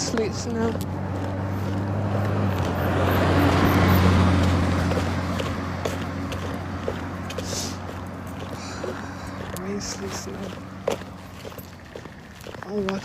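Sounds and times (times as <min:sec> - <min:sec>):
car driving past: 0:00.0 - 0:12.4.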